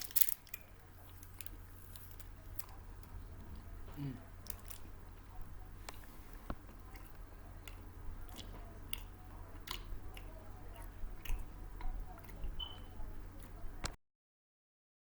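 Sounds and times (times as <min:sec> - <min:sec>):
person chewing crunchy snacks: 0:00.0 - 0:03.1, 0:03.9 - 0:05.0, 0:05.8 - 0:13.6.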